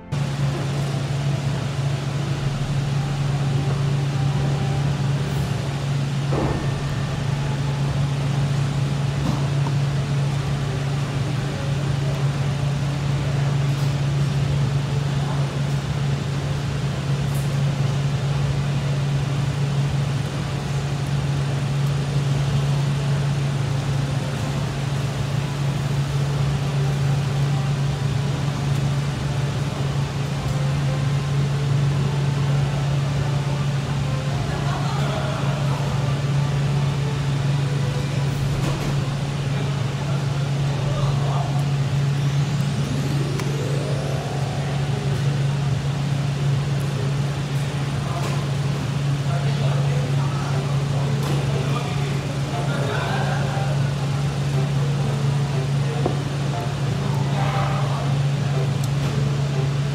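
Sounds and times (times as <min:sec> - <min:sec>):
ventilation fan humming: 0:00.0 - 0:59.9.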